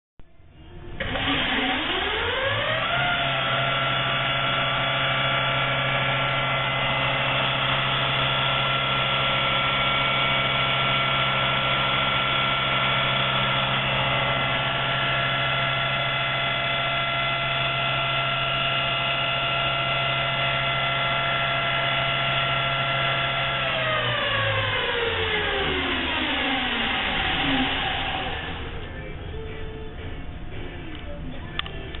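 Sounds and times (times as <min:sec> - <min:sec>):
low hum: 0:00.2 - 0:32.0
lathe spindle whine: 0:00.7 - 0:30.9.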